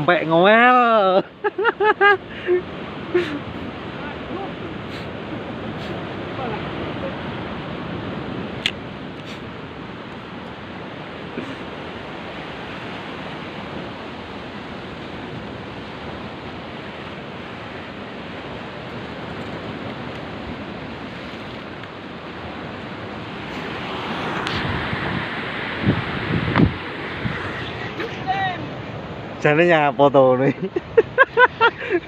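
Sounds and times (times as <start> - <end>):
ocean surf washing ashore: 0.0 - 32.0.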